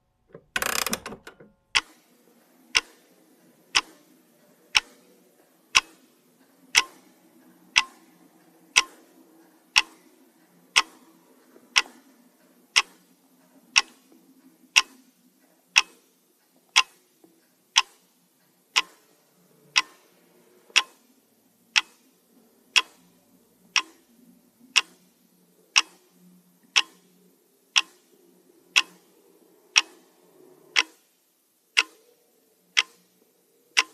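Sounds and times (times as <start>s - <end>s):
pendulum clock ticking: 0.3s - 33.9s.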